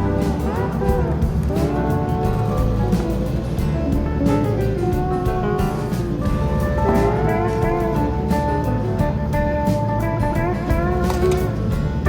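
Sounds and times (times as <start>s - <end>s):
low rumble: 0.0s - 12.0s
plucked guitar and strings music: 0.0s - 12.0s.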